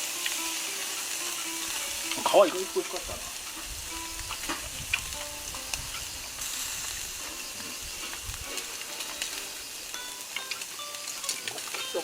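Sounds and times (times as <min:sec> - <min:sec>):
fire pops and crackles: 0:00.0 - 0:12.0
meat sizzling on a grill: 0:00.0 - 0:12.0.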